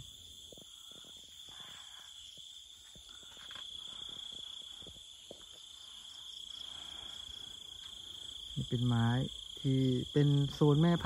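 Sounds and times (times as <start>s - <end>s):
faint ticks and rustles: 0.0s - 9.7s
night insects chirring: 0.0s - 11.0s.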